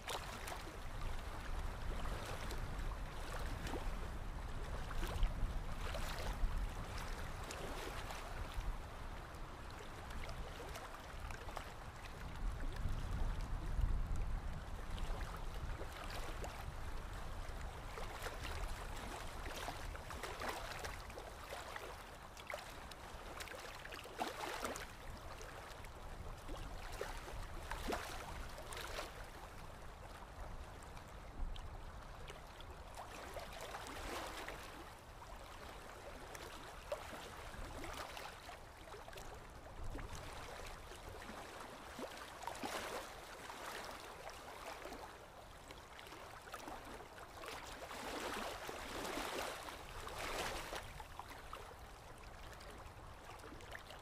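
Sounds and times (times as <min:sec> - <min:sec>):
water lapping against boat hull: 0:00.0 - 0:54.0.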